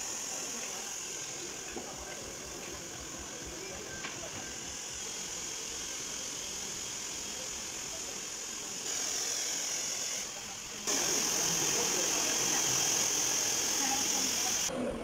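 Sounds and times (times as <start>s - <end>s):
hair dryer blowing: 0.0s - 14.7s.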